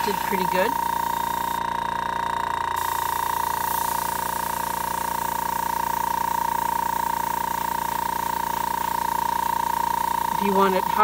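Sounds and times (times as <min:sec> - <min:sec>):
air compressor humming and whining: 0:00.0 - 0:11.0.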